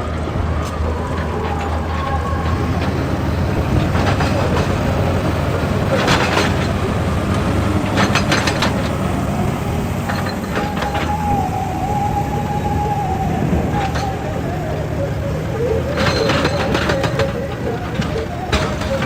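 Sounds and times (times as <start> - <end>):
excavator diesel engine: 0.0 - 19.0
steady whine: 0.0 - 19.0.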